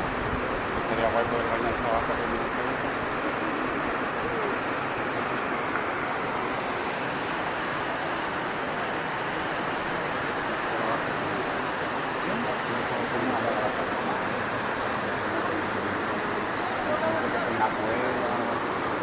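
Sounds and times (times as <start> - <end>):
faint voices: 0.0 - 19.0
waterfall rushing: 0.0 - 19.0.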